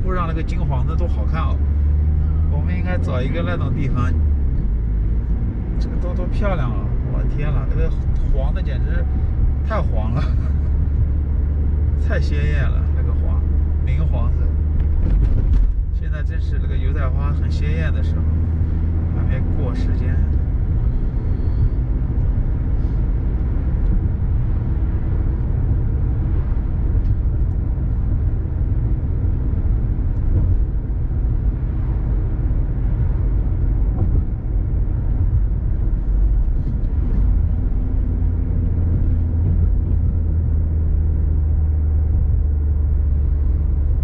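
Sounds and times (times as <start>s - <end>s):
car engine hum: 0.0s - 44.0s
tyre and road rumble: 0.0s - 44.0s.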